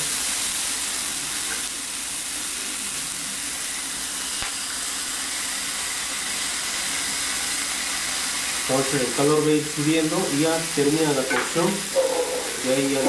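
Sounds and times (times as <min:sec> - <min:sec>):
meat sizzling on a grill: 0:00.0 - 0:13.0.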